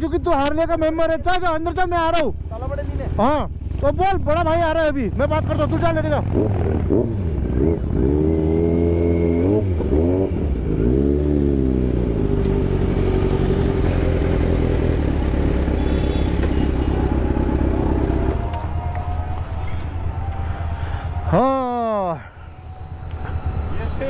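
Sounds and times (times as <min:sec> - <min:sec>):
motorcycle engine revving: 0:02.4 - 0:24.0.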